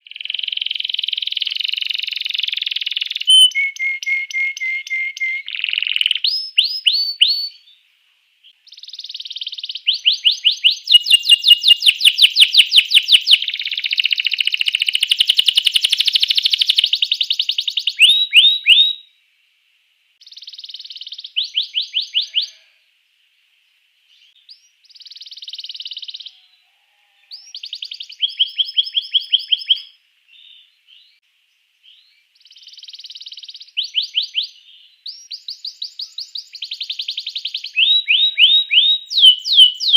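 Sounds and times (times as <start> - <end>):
canary singing trills: 0.0 - 7.8, 8.6 - 19.1, 20.2 - 22.8, 24.1 - 31.2, 31.9 - 39.9.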